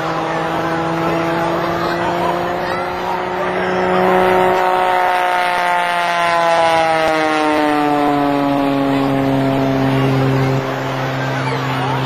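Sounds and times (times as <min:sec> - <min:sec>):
plane engine and propeller droning: 0:00.0 - 0:12.0.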